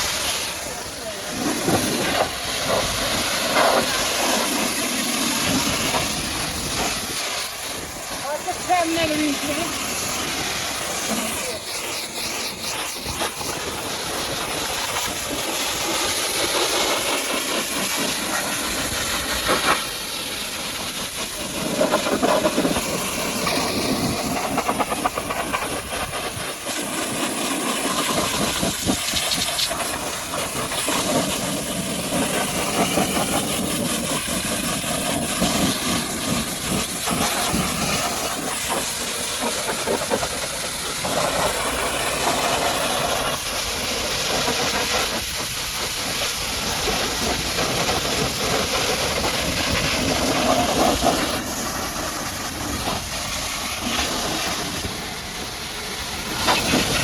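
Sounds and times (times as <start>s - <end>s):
pressure washer spraying water: 0.0s - 57.0s.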